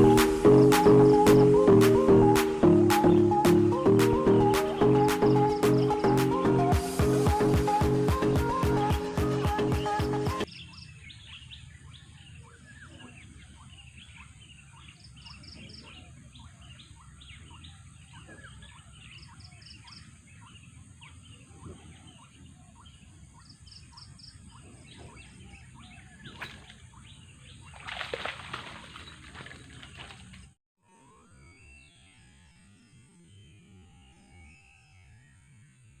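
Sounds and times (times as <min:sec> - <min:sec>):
birds chirping: 0:00.0 - 0:30.5.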